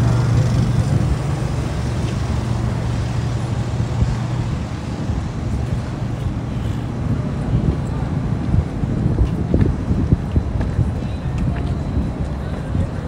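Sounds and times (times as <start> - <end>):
heavy vehicle engine humming: 0.0 - 13.0
road noise: 0.0 - 13.0.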